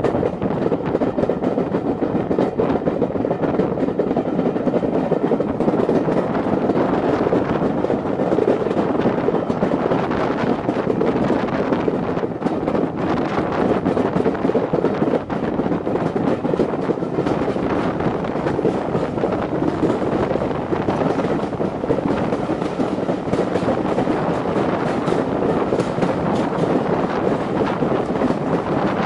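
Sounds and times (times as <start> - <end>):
train coaches running on track: 0.0 - 29.0
wind rushing over microphone: 0.0 - 29.0.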